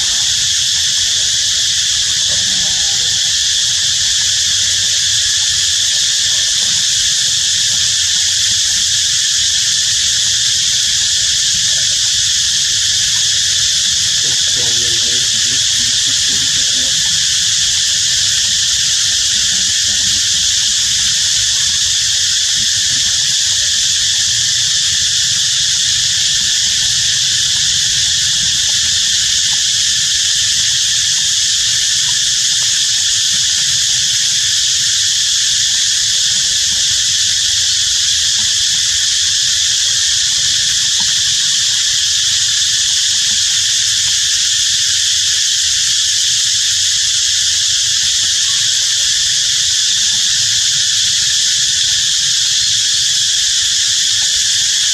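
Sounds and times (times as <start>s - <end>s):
insects buzzing: 0.0s - 54.9s.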